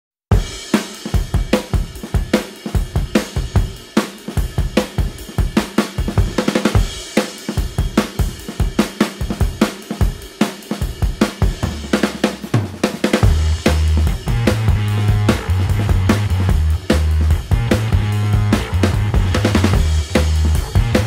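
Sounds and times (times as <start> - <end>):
drum kit beat: 0.3 - 21.0.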